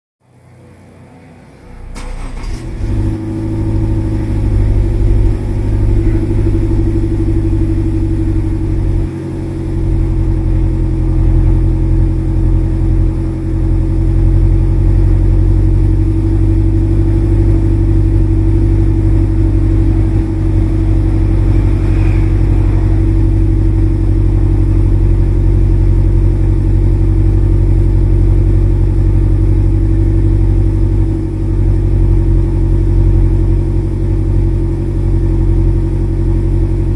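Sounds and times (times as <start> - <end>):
car exhaust idling: 1.6 - 36.9.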